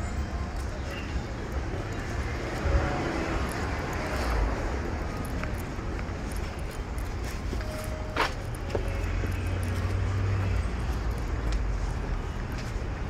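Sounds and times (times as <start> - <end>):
steady low traffic rumble: 0.0 - 13.0.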